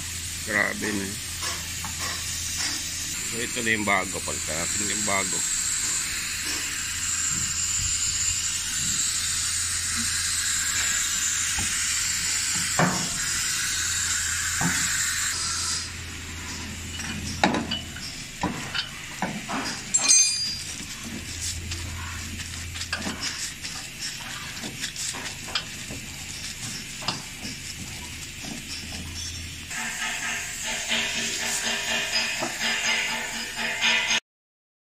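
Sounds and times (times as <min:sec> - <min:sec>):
steady air hiss: 0:00.0 - 0:34.0.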